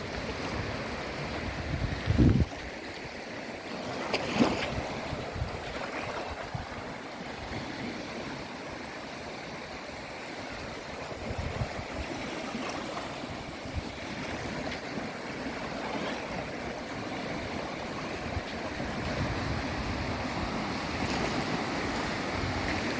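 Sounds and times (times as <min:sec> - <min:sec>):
sea waves washing in: 0:00.0 - 0:22.9.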